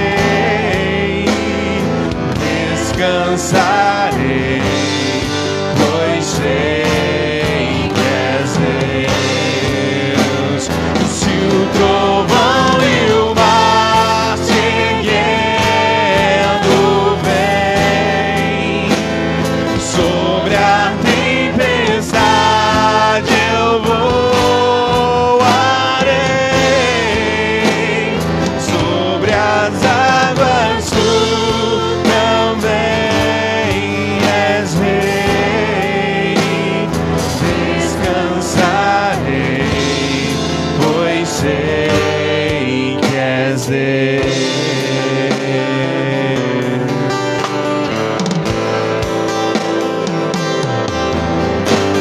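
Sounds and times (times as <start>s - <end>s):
person singing: 0.0s - 47.6s
instrumental backing music: 0.0s - 52.0s.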